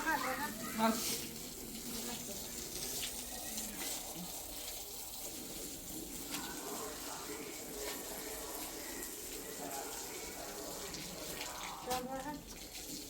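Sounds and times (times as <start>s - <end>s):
water running from a tap: 0.0s - 13.0s.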